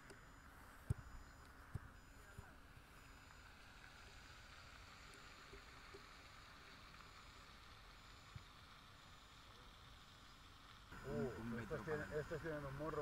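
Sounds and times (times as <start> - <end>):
faint open air hiss: 0.0 - 13.0.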